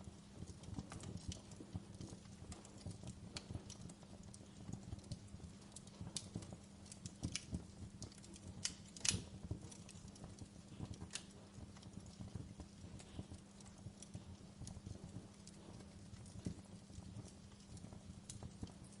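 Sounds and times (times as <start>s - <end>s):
steady low hum: 0.0s - 19.0s
wood fire crackling and popping: 0.0s - 19.0s.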